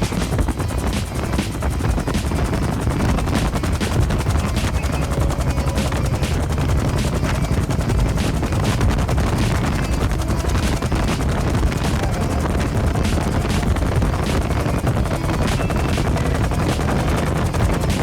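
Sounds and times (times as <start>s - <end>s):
helicopter rotor beating: 0.0s - 18.0s
turbine engine running: 0.0s - 18.0s.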